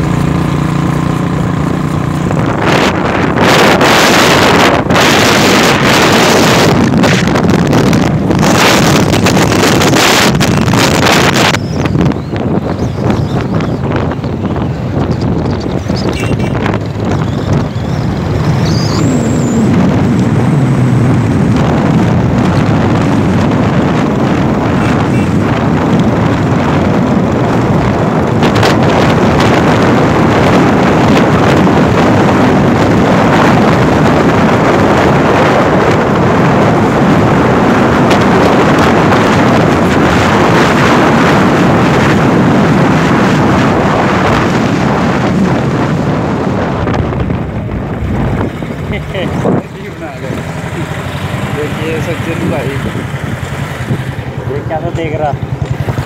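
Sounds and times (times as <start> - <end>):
motorcycle engine running: 0.0 - 56.0
tyre noise on road: 0.0 - 56.0
wind rushing over microphone: 0.0 - 56.0.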